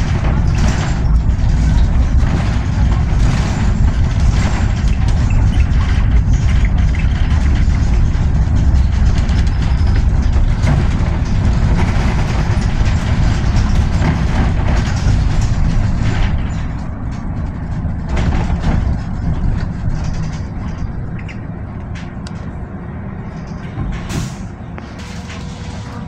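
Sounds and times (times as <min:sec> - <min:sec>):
bodywork rattling: 0:00.0 - 0:22.6
bus road rumble: 0:00.0 - 0:26.0.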